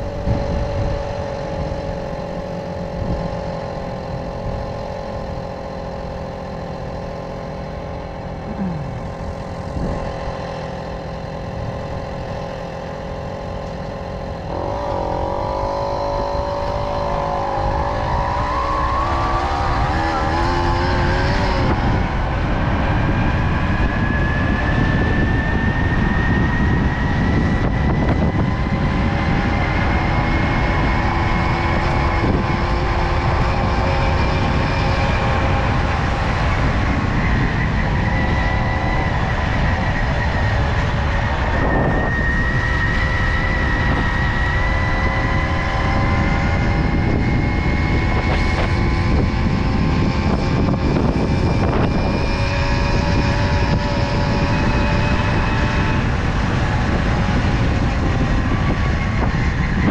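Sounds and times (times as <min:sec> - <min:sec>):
heavy wind: 0:00.0 - 0:59.9
moped two-stroke engine cruising: 0:00.0 - 0:59.9
road rumble: 0:00.0 - 0:59.9.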